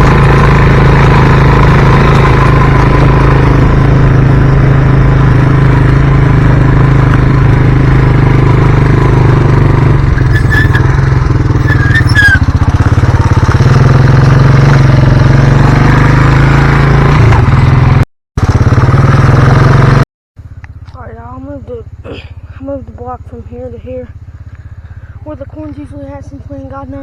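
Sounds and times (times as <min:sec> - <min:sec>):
small off-road vehicle engine: 0:00.0 - 0:27.0.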